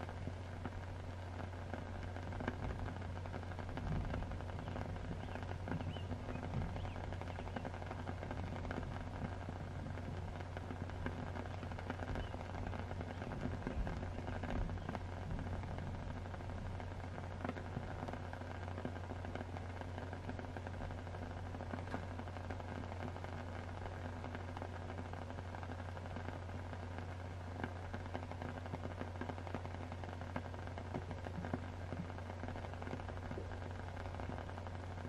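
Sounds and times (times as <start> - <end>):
constant low hum: 0.0 - 35.0
small crackles and pops: 0.0 - 35.0
steady rain: 0.0 - 35.0.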